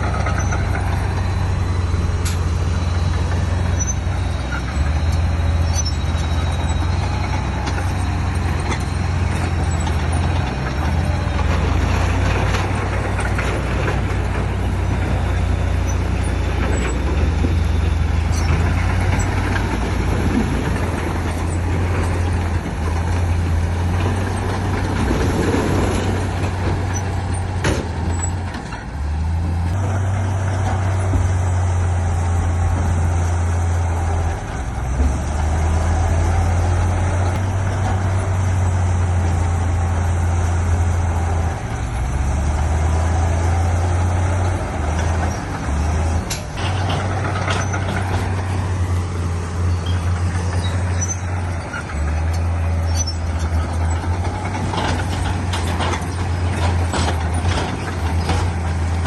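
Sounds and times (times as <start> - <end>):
heavy diesel machinery engine drone: 0.0 - 59.0.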